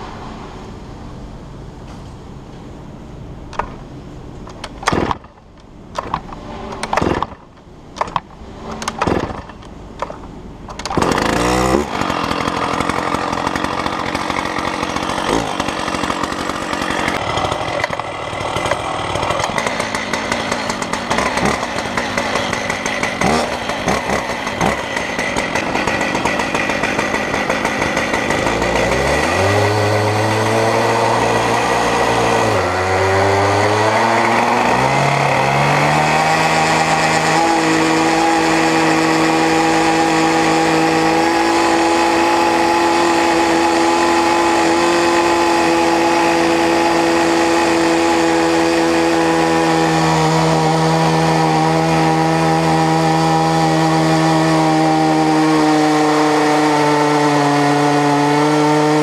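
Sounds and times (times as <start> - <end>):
chainsaws cutting log: 4.5 - 5.4, 6.0 - 59.0.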